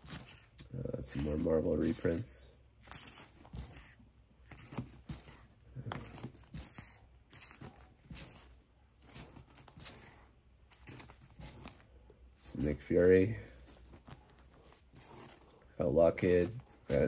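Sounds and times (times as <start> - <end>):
comic book pages rustling: 0.0 - 17.0.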